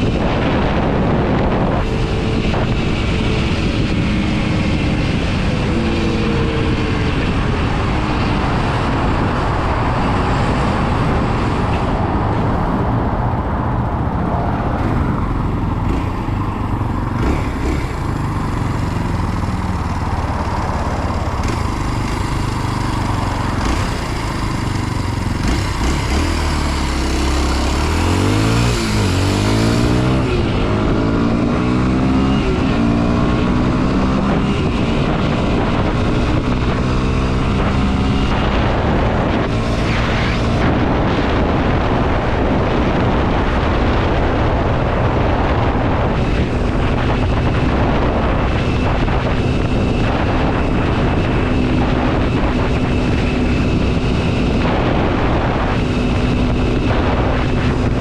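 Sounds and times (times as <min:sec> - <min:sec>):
motorcycle engine shifting gears: 0:00.0 - 0:58.0
wind noise: 0:00.0 - 0:58.0.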